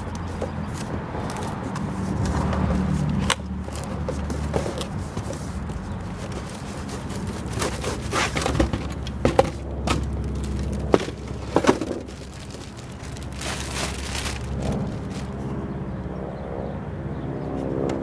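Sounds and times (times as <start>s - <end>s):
cardboard tearing and rustling: 0.0s - 15.6s.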